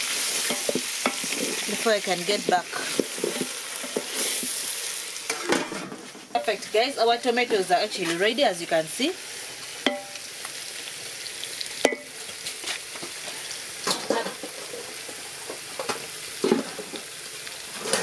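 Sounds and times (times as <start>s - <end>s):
food sizzling in a metal pot: 0.0s - 18.0s.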